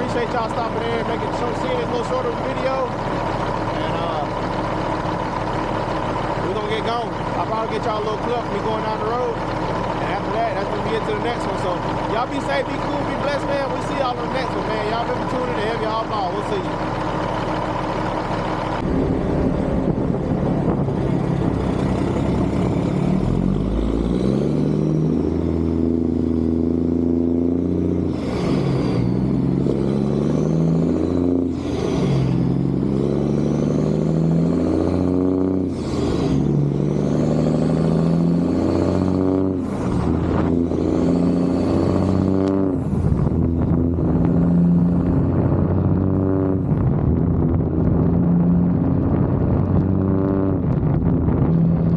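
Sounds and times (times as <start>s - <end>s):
truck diesel engine accelerating: 0.0s - 51.9s.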